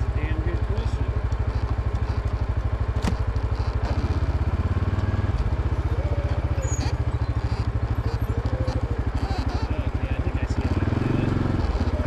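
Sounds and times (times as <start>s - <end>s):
engine throbbing: 0.0s - 12.0s.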